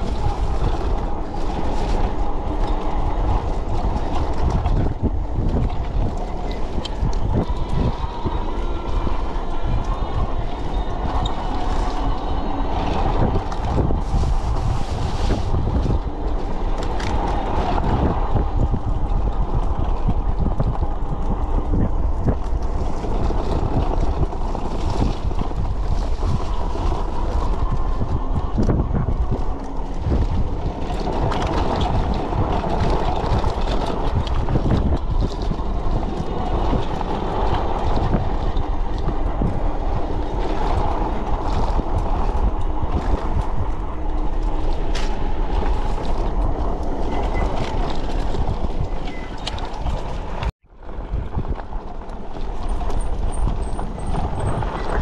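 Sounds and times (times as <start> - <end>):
bike rattling over rocky trail: 0.0 - 55.0
low rumble: 0.0 - 55.0.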